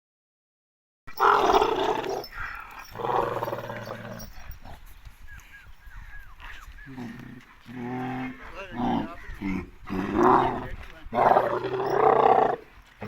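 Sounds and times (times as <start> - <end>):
cattle bellowing: 1.2 - 12.7.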